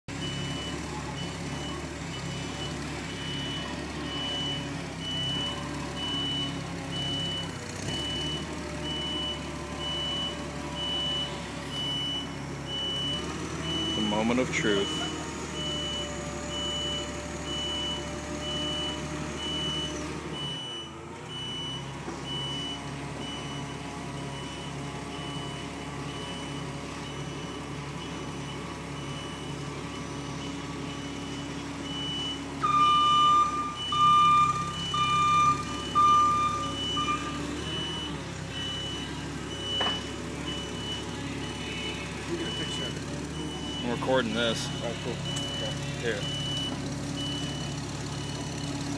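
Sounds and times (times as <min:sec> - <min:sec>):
back-up alarm beeping: 0:00.1 - 0:48.9
vehicle engine running: 0:00.1 - 0:48.9
loud low beep: 0:02.4 - 0:48.7.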